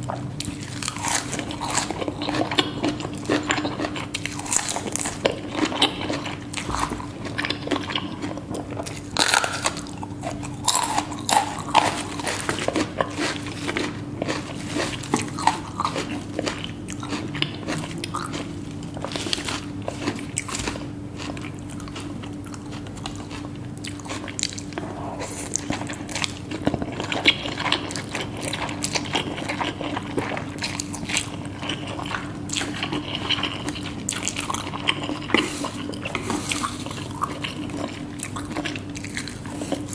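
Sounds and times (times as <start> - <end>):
crunchy chewing of food: 0.0 - 39.9
steady low hum: 0.0 - 39.9.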